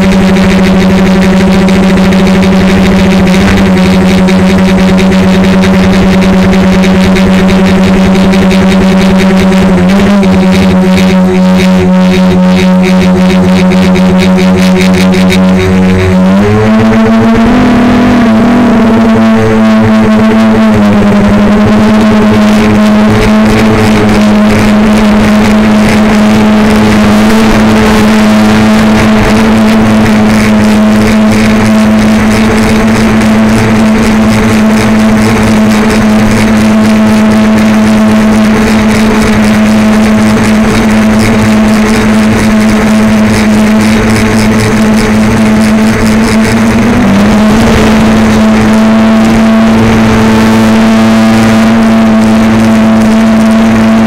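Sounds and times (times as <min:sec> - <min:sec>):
drone motors and propellers droning: 0:00.0 - 0:54.0.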